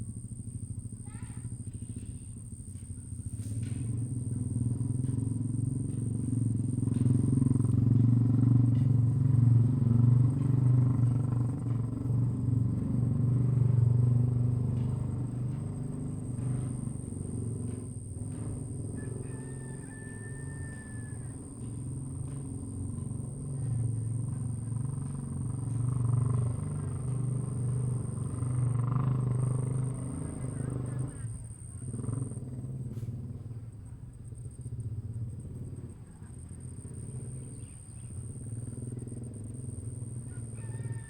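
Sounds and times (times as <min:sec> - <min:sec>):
faint high whine: 0:00.0 - 0:41.0
vehicle engine rumble passing: 0:00.0 - 0:41.0.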